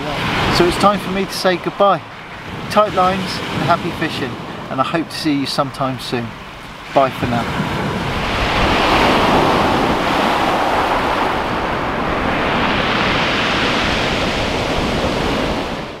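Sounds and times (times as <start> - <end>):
waves breaking on shingle beach: 0.0 - 16.0.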